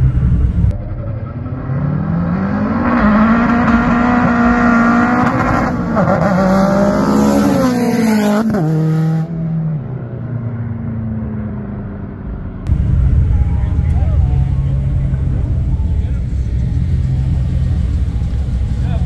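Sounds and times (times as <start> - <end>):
car engine accelerating past: 0.0 - 19.0.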